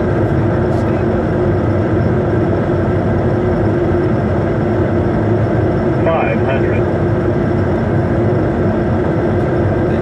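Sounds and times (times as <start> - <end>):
constant hum: 0.0 - 10.0
jet engines in aircraft cabin: 0.0 - 10.0.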